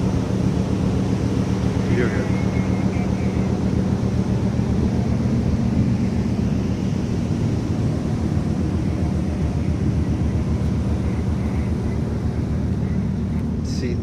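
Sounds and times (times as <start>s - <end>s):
ship engine throbbing: 0.0s - 14.0s.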